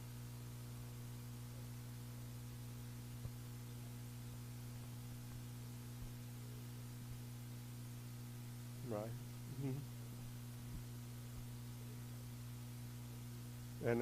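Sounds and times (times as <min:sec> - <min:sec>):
low electrical hum: 0:00.0 - 0:14.0
faint hiss: 0:00.9 - 0:14.0.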